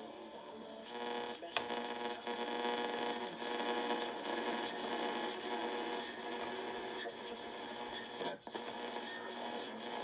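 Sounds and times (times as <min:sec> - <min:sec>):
radio hum-like tones: 0:00.0 - 0:10.0
radio static: 0:00.0 - 0:10.0.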